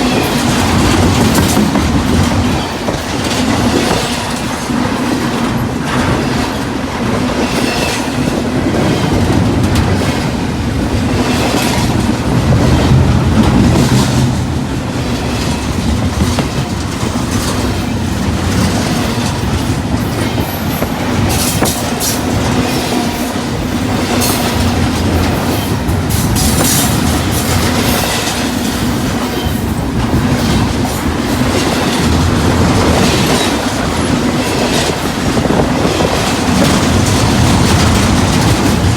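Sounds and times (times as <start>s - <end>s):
train wheels rumbling on rail: 0.0s - 38.9s
wheels clacking over rail joints: 0.0s - 38.9s.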